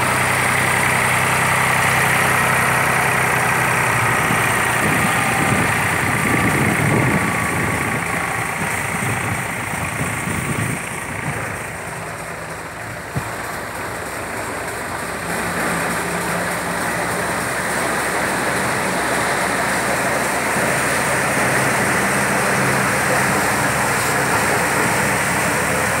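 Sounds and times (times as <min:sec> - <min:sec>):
low engine hum: 0:00.0 - 0:26.0
thresher mechanical rumble: 0:00.0 - 0:26.0.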